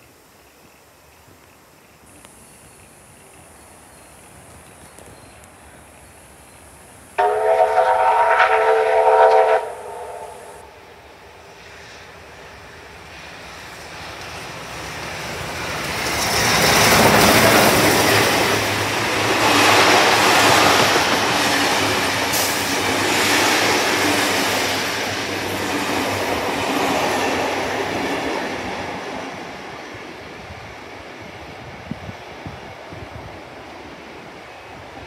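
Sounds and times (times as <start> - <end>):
train wheels on rails: 0.0 - 35.0
steam locomotive rushing past: 6.1 - 35.0.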